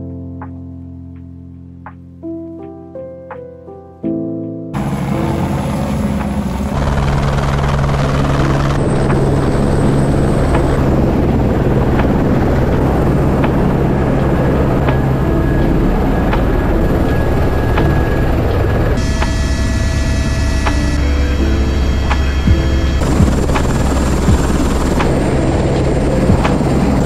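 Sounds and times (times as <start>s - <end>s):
helicopter rotor and engine drone: 4.8s - 27.0s.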